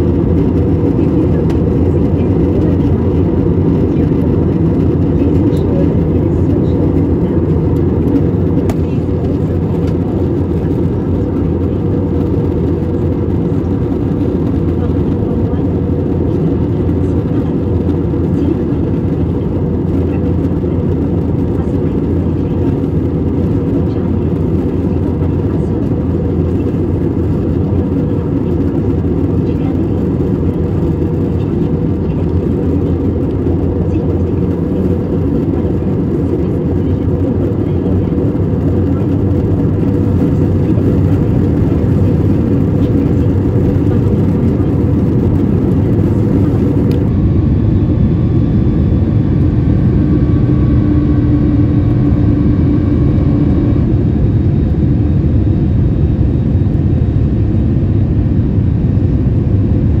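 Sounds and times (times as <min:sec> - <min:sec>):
jet engines and airflow rushing: 0:00.0 - 1:00.0.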